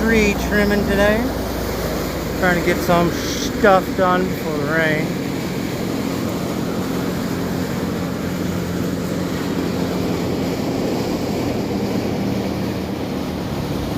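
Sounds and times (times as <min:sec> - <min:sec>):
engine humming: 0:00.0 - 0:13.9.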